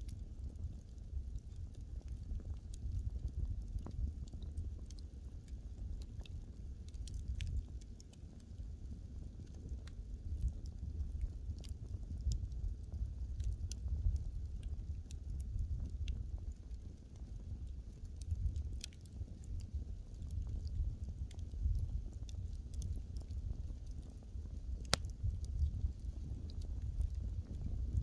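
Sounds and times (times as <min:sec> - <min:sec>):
burning wood crackling and popping: 0:00.0 - 0:28.0.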